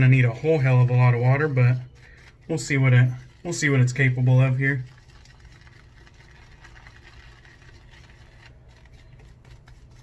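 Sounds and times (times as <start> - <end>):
shaving brush swishing lather: 0.0 - 10.0.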